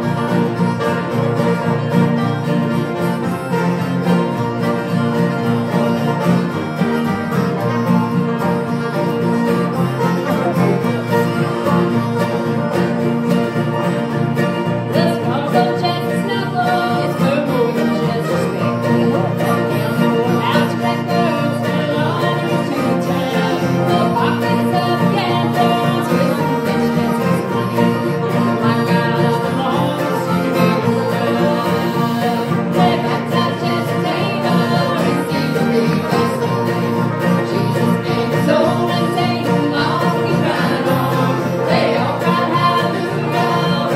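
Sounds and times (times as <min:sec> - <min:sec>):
bluegrass band playing: 0:00.0 - 0:43.9.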